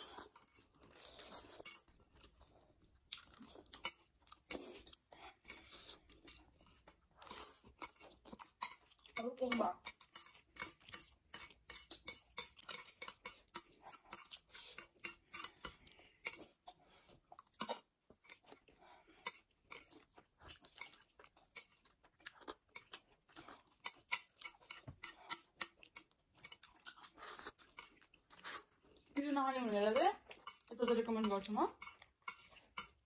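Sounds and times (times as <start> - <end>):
chewing noodles: 0.0 - 9.2, 9.8 - 29.2, 30.1 - 30.8, 31.7 - 33.0.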